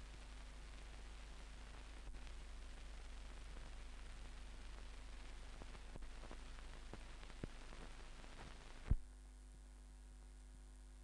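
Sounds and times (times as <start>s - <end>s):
film soundtrack hiss: 0.0s - 11.0s.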